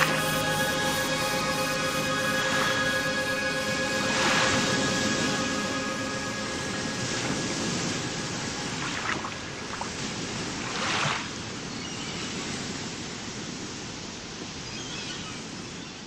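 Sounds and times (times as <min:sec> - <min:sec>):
surf-like rushing noise: 0:00.0 - 0:14.7.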